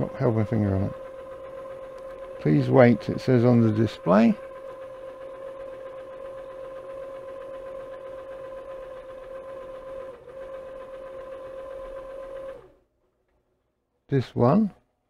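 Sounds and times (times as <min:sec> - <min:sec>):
disc changer motor whine: 0:00.0 - 0:12.8.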